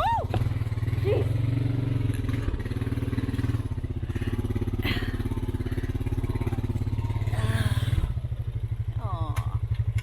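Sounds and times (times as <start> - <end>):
four-wheeler engine idling: 0.0 - 10.0.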